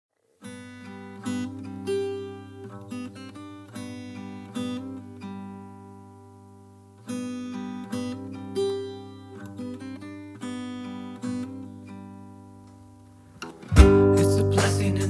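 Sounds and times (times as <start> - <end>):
acoustic guitar strumming chords: 0.3 - 15.0.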